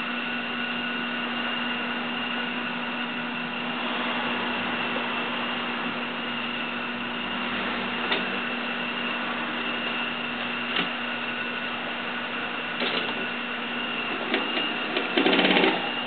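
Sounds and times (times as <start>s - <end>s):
sewing machine motor hum: 0.0s - 16.0s.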